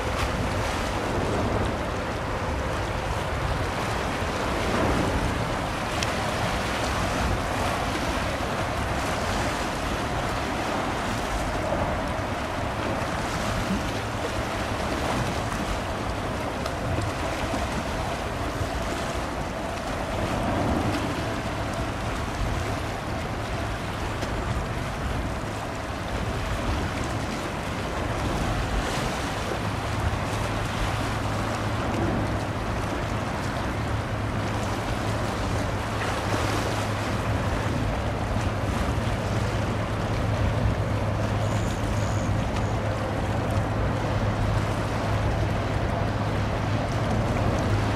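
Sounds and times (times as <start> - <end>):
boat engine humming: 0.0 - 47.9
water noise: 0.0 - 47.9
wind: 0.0 - 47.9.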